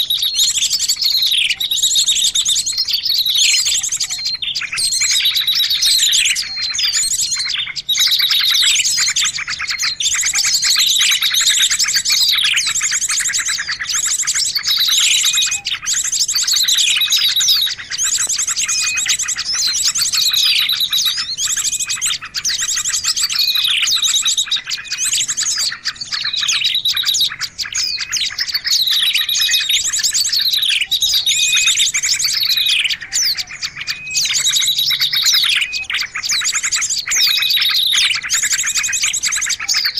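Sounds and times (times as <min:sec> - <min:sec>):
falling bird call: 0:00.0 - 0:39.9
songbirds chirping and trilling: 0:00.0 - 0:39.9.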